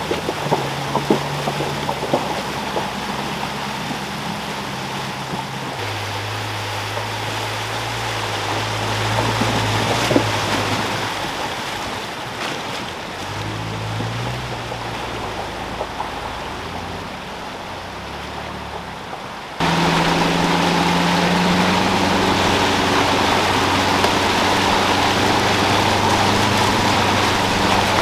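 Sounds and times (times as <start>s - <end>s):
floodwater rushing: 0.0s - 28.0s
vehicle engines humming: 0.0s - 28.0s
water splashes and knocks: 0.0s - 28.0s.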